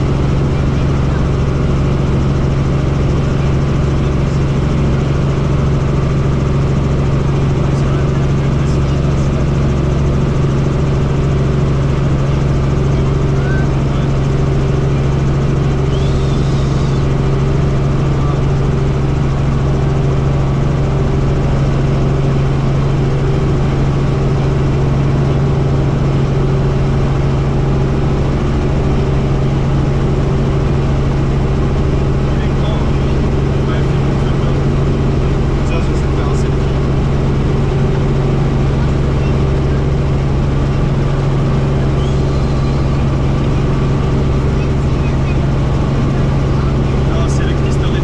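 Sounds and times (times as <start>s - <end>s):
helicopter rotor and engine drone: 0.0s - 48.0s.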